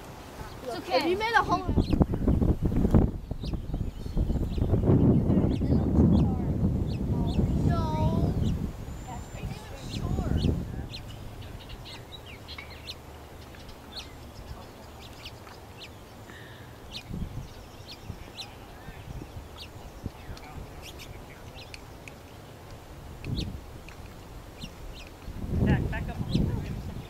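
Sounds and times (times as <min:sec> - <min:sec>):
birds chirping: 0:00.0 - 0:27.0
low background hiss: 0:00.0 - 0:27.0.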